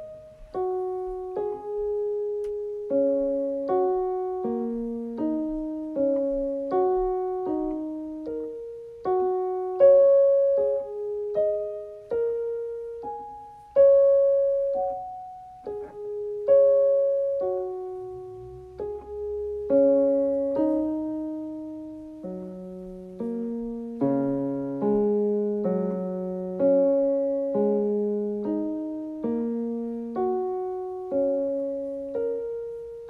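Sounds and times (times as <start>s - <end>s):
slow gentle piano melody: 0.0s - 33.0s.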